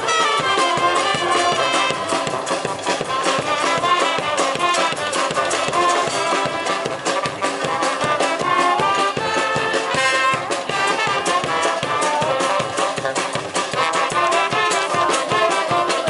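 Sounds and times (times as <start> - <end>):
brass band playing dance tune: 0.0 - 16.0
steady drum beat: 0.0 - 16.0
trumpet-like lines: 0.0 - 16.0.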